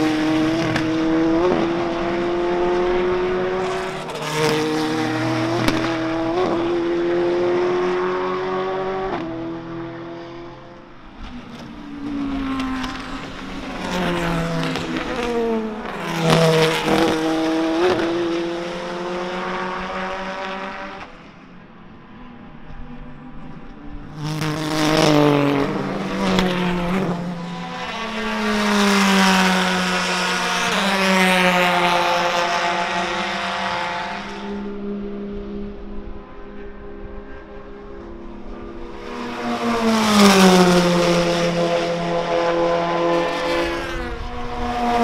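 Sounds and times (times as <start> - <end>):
race car engines passing: 0.0 - 45.0.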